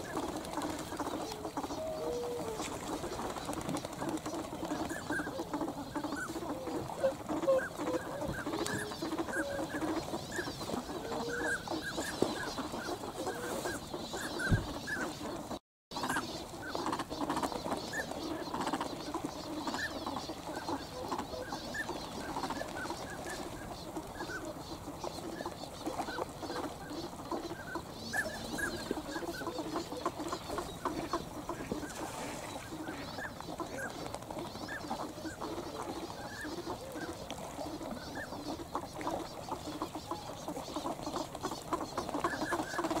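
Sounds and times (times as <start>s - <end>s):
flock of swans and ducks calling: 0.0s - 43.0s.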